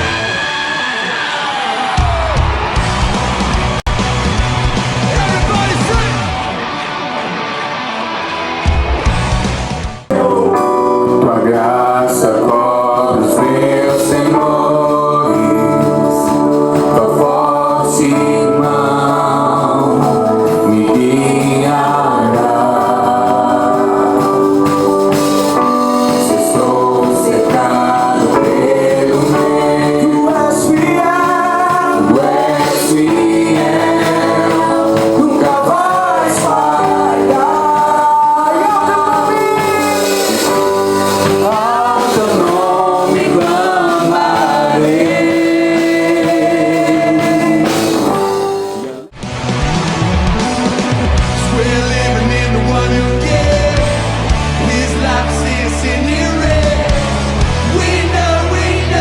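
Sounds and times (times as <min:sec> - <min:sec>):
instrumental backing music: 0:02.1 - 0:59.0
worship song singing: 0:10.0 - 0:49.2, 0:50.4 - 0:59.0.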